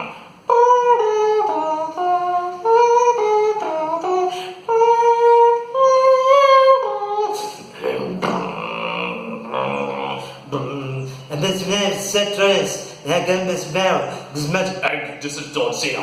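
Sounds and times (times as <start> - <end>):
person humming wordless melody: 0.0 - 14.8.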